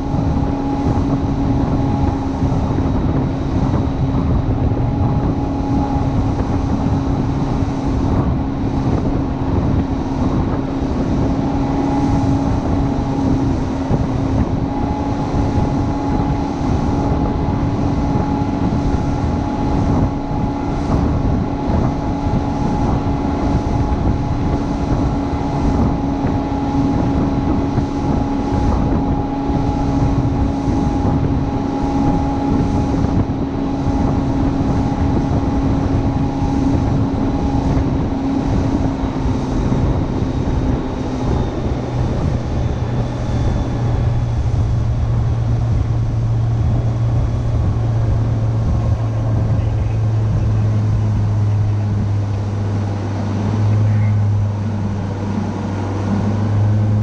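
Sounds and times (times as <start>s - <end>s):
boat engine running: 0.0s - 57.0s
wind rushing over microphone: 0.0s - 57.0s
water hissing along hull: 0.1s - 57.0s.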